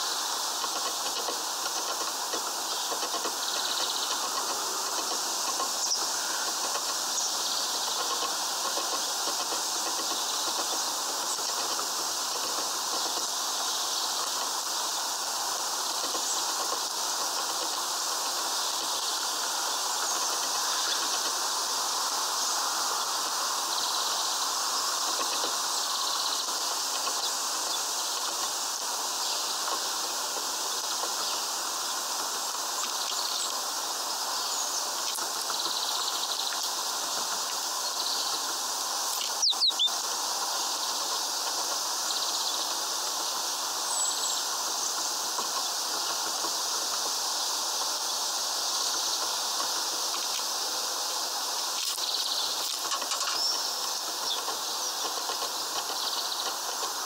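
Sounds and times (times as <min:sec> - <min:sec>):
outdoor background hiss: 0:00.0 - 0:57.0
small birds chirping: 0:00.0 - 0:57.0.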